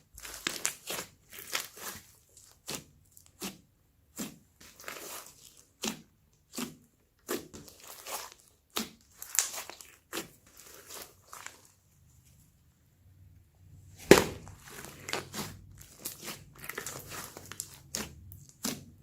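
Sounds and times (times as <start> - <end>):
hands squishing slime: 0.0 - 11.9, 14.0 - 19.0.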